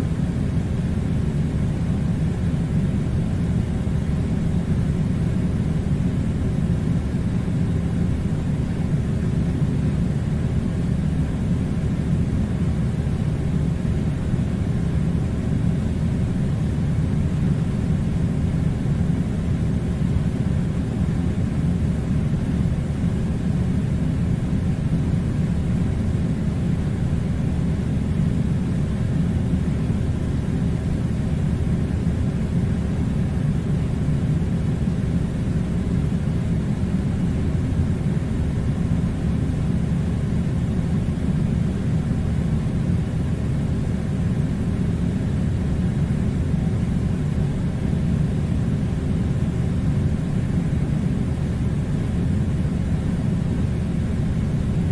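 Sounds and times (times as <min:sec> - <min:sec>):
air conditioner humming: 0:00.0 - 0:54.9.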